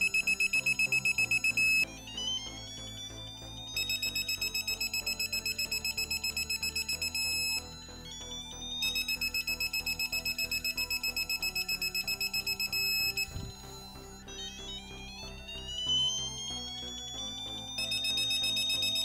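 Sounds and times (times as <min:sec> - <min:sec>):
rapid high beeping: 0:00.0 - 0:01.8, 0:03.5 - 0:16.2, 0:17.2 - 0:19.0
background music: 0:00.0 - 0:19.0.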